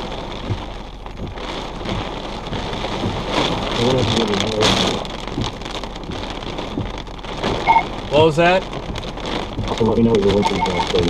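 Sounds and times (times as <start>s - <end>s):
heavy rain on vehicle roof: 0.0s - 11.0s.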